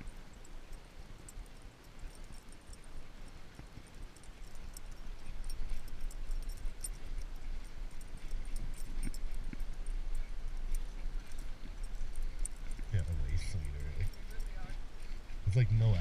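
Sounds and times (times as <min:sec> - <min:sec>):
metallic clicks and jingling: 0:00.0 - 0:16.0.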